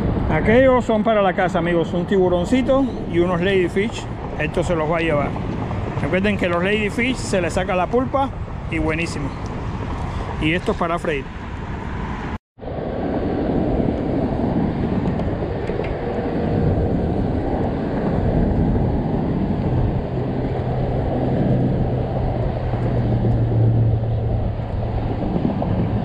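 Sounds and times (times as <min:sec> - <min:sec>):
low outdoor rumble: 0:00.0 - 0:11.8, 0:12.6 - 0:26.0.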